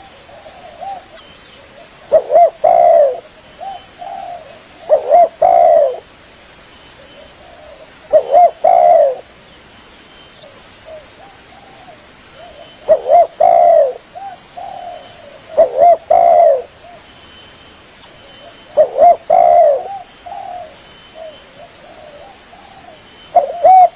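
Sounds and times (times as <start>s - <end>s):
dove cooing: 0.0s - 6.1s, 7.0s - 9.4s, 10.4s - 17.0s, 18.3s - 23.9s.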